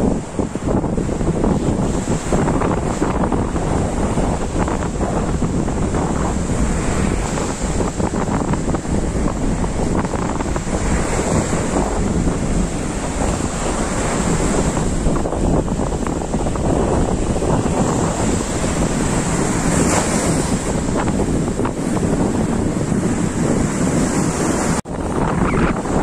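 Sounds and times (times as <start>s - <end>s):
sea waves breaking: 0.0s - 26.0s
wind buffeting microphone: 0.0s - 26.0s.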